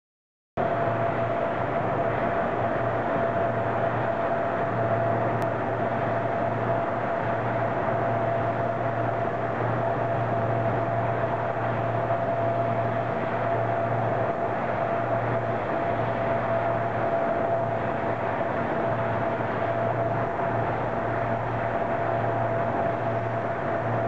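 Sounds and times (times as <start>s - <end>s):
engine whine: 0.6s - 24.0s
turboprop engines droning: 0.6s - 24.0s.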